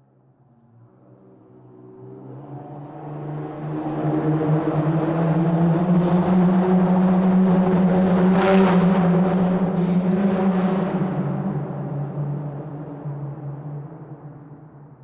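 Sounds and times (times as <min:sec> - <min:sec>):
car engine and road drone: 0:00.2 - 0:15.0.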